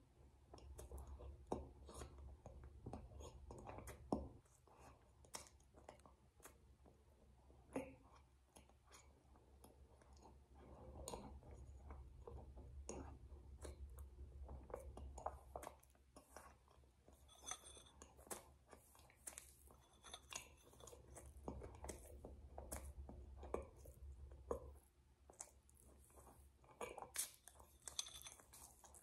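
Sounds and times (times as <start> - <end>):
person chewing and lip smacking: 0.5 - 7.0, 7.7 - 29.0.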